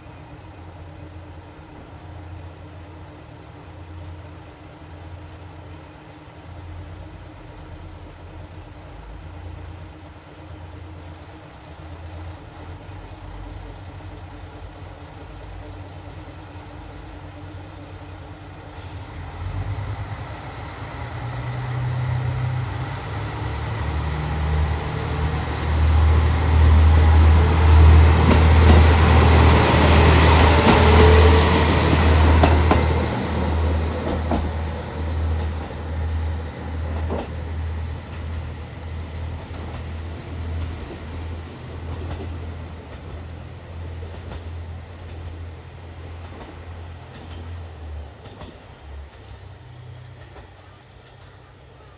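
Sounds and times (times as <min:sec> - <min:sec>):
diesel railcar engine drone: 0:00.0 - 0:51.9
train wheel noise: 0:08.5 - 0:51.9.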